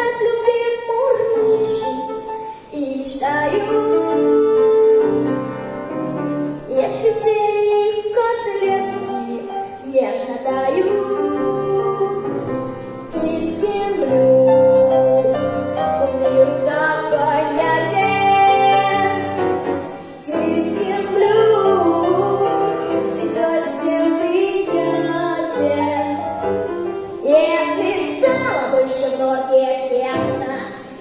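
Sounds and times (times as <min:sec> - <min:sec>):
girl singing a blues song: 0:00.0 - 0:05.8, 0:06.4 - 0:31.0
piano accompaniment: 0:00.0 - 0:31.0.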